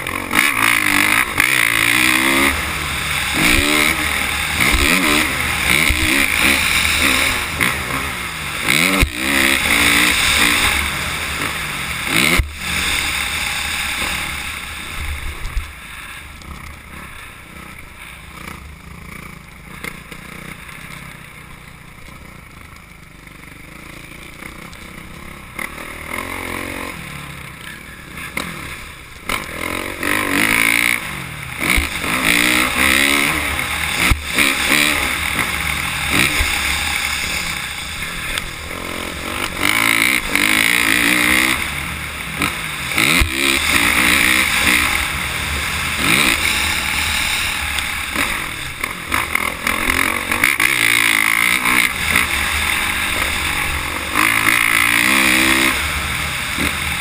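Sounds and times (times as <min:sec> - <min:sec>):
motocross bike engine revving: 0:00.0 - 0:57.0
steady rushing noise: 0:00.0 - 0:57.0.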